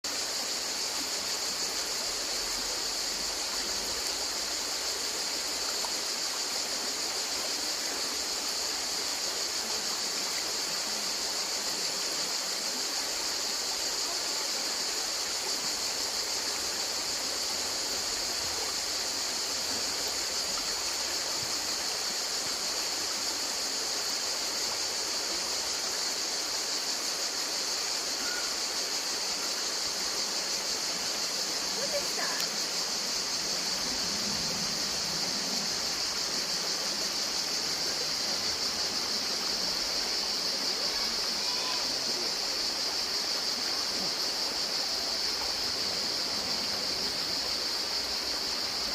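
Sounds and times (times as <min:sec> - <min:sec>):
river water rushing: 0:00.2 - 0:48.9.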